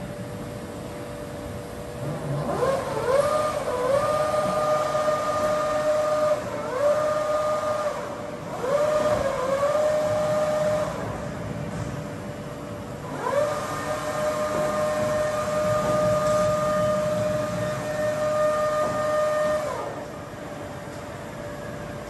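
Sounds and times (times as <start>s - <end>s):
machine drives whining: 0.0s - 22.0s
steady machine hum: 0.0s - 22.0s.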